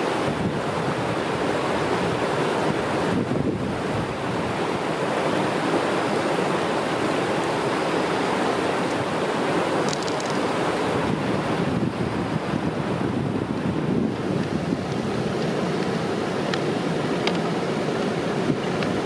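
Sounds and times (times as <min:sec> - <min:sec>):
fast-flowing river water rushing: 0:00.0 - 0:19.0.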